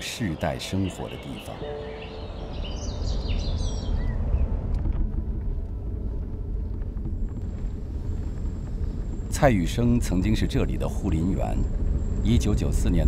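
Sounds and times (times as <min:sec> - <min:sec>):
low rumble: 0:01.6 - 0:13.0.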